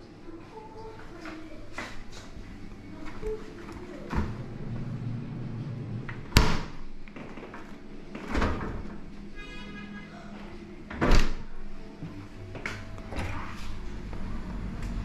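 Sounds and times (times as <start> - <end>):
steady low hum: 1.4 - 9.4, 10.4 - 15.0.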